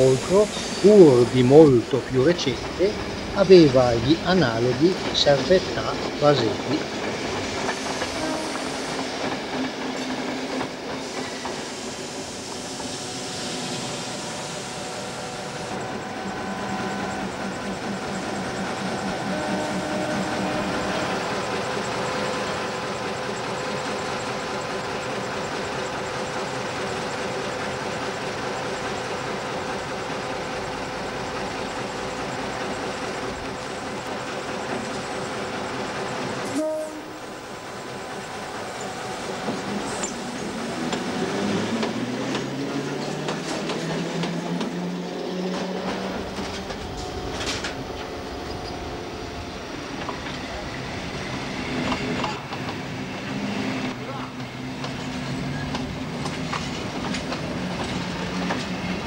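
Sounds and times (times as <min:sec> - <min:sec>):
locomotive humming: 0:00.0 - 0:59.0.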